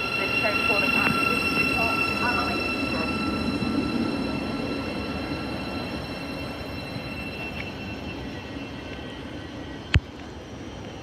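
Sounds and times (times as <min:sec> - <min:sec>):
electric train rumble: 0:00.0 - 0:11.0
high electrical whine: 0:00.0 - 0:11.0.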